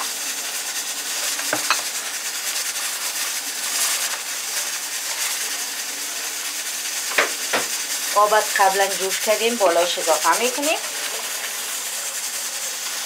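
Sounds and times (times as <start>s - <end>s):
broth bubbling in a pot: 0.0s - 13.0s
spatula stirring and scraping: 0.0s - 13.0s.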